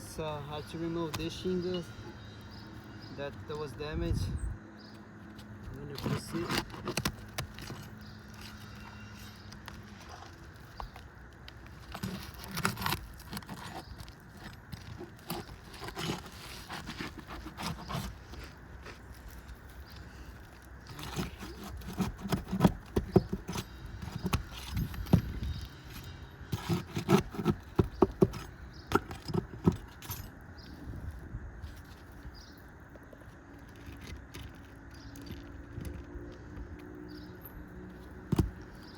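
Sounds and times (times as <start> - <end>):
shingle scraping: 4.8 - 38.9.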